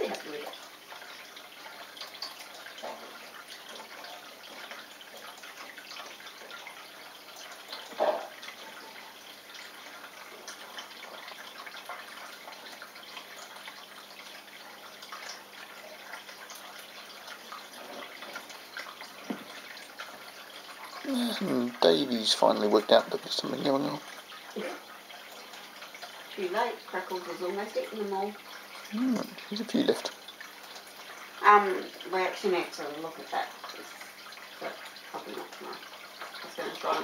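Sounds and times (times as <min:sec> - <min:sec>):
water trickling and dripping: 0:00.0 - 0:37.0.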